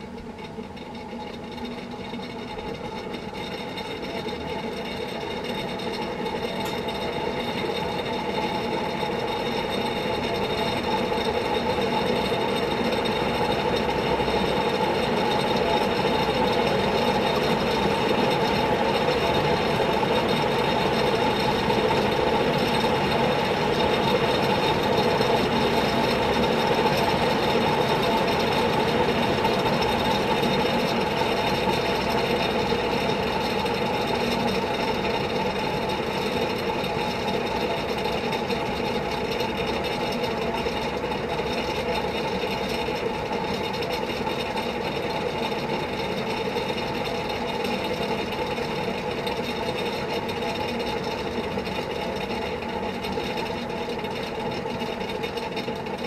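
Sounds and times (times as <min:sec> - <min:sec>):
ceiling fan motor hum and whir: 0:00.0 - 0:56.0.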